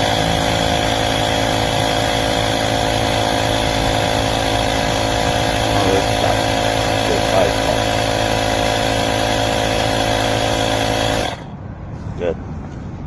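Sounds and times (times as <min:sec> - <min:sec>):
tire inflator compressor buzzing: 0:00.0 - 0:11.6.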